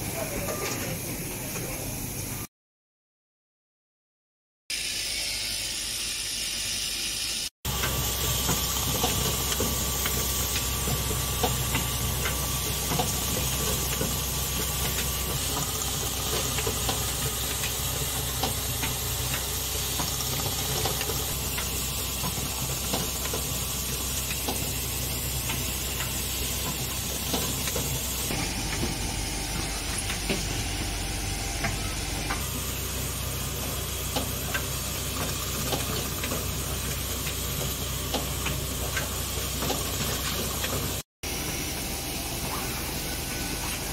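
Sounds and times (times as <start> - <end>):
machine humming and hissing: 4.7 - 43.9.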